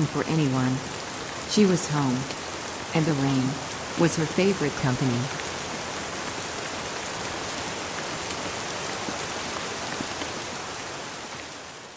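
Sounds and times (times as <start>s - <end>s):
steady rain falling: 0.0s - 11.9s.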